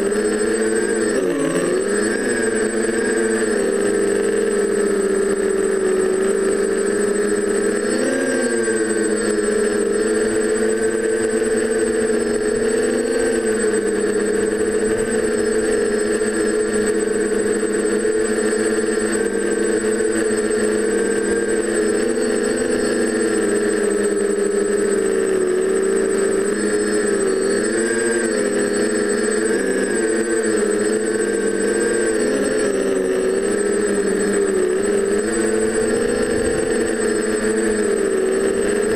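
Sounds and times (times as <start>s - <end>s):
drone motors buzzing: 0.0s - 38.9s.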